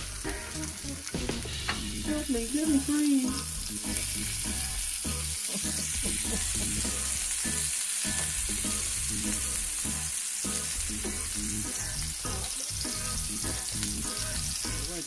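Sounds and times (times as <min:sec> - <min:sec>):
food sizzling in grill pan: 0:00.0 - 0:15.0.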